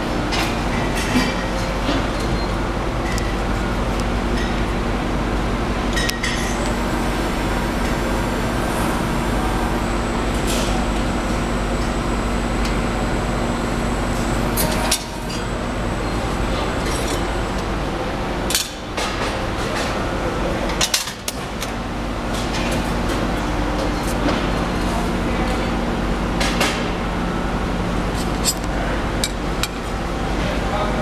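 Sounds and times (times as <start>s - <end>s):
hydraulic press humming: 0.0s - 30.9s.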